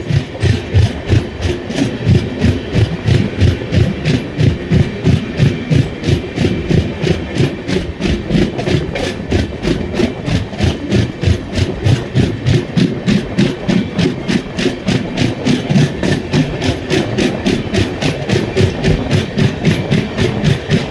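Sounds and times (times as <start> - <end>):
train running rhythmically: 0.0 - 20.9.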